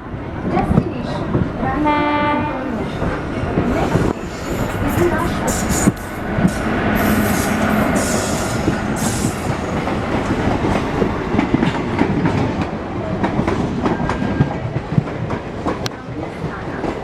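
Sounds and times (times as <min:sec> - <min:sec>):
clicks and clacks of train: 0:00.0 - 0:17.0
train rumble: 0:00.0 - 0:17.0.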